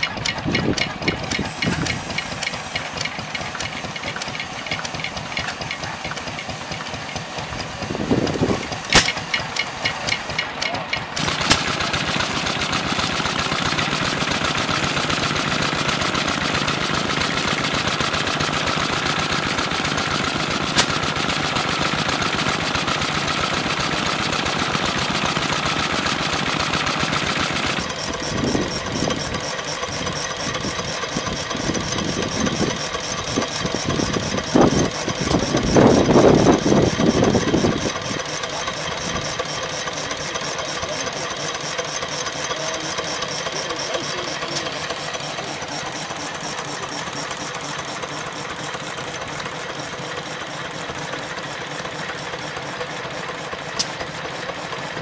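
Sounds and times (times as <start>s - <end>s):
stationary engines ticking: 0.0s - 55.0s.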